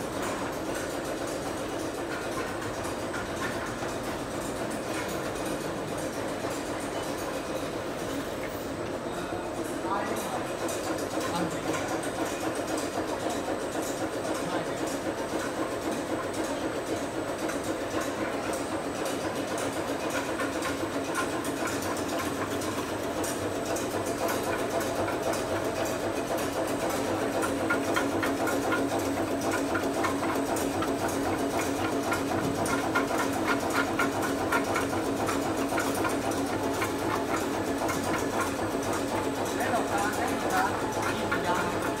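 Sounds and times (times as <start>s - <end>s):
rapid mechanical clatter: 0.0s - 8.9s, 9.5s - 42.0s.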